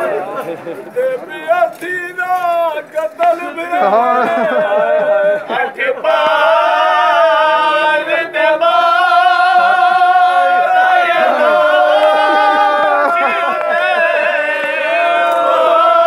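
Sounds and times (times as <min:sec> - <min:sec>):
man chanting a lament: 0:00.0 - 0:07.9, 0:09.6 - 0:16.0.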